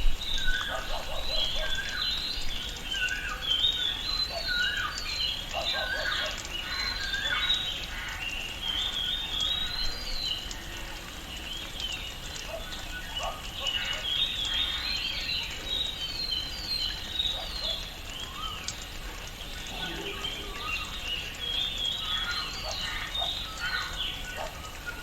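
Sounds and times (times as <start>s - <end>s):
birds chirping and calling: 0.2s - 10.9s, 11.8s - 25.0s.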